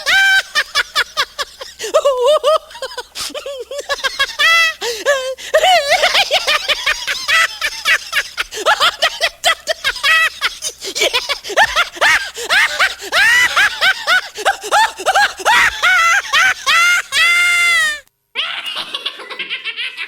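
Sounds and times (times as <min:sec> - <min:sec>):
high-pitched squealing laughter: 0:00.0 - 0:20.0.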